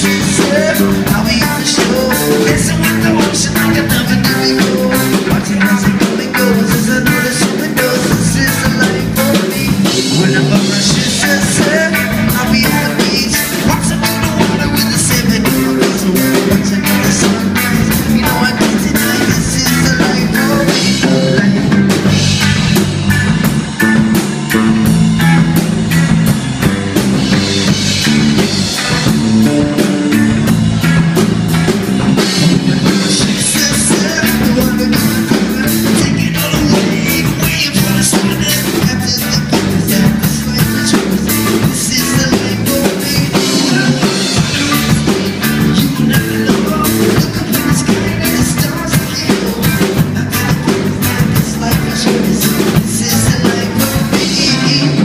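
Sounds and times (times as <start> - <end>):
amplified electric guitars: 0.0 - 55.0
drum kit beat: 0.0 - 55.0.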